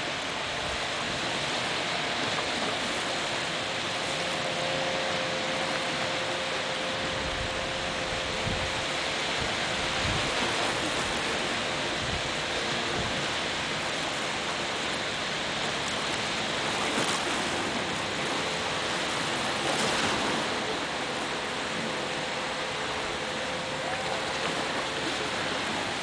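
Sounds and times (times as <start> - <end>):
faint jet ski engine drone: 0.0 - 26.0
surf washing onto beach: 0.0 - 26.0.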